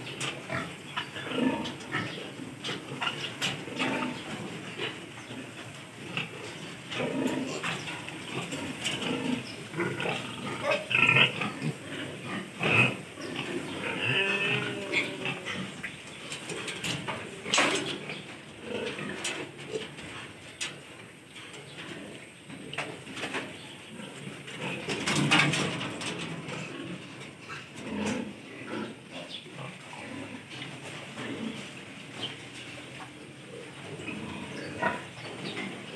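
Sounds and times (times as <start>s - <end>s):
piglets grunting and squealing: 0.0s - 20.8s, 21.4s - 32.5s, 33.1s - 35.9s.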